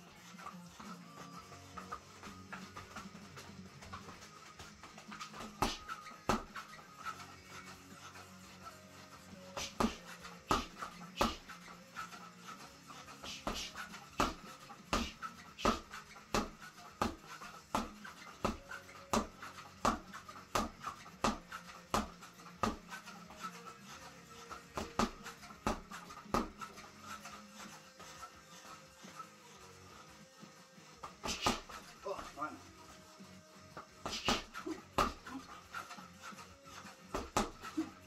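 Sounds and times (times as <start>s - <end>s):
faint music: 0.0s - 38.0s
gloves punching reflex bag: 1.8s - 7.8s, 8.4s - 23.8s, 24.4s - 28.8s, 31.0s - 32.2s, 33.7s - 38.0s.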